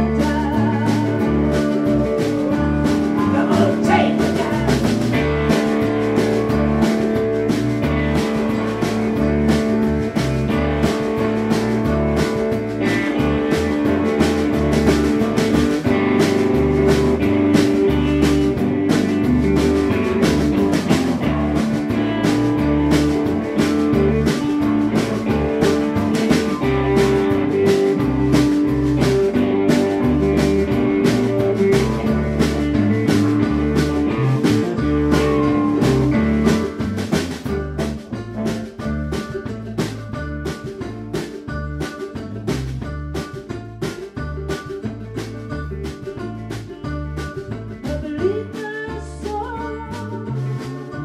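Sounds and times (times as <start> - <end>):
drum kit beat: 0.0 - 51.0
electric guitar: 0.0 - 51.0
stepping bass line: 0.0 - 51.0.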